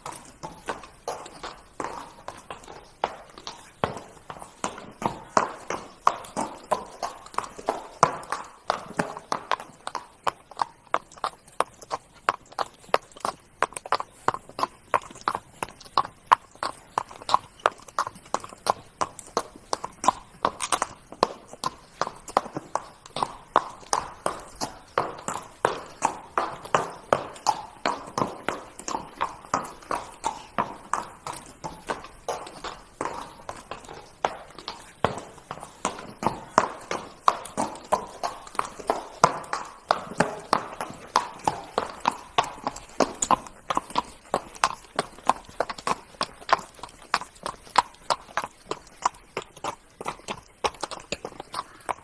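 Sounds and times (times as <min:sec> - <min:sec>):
horse hooves trotting: 0:00.0 - 0:52.0.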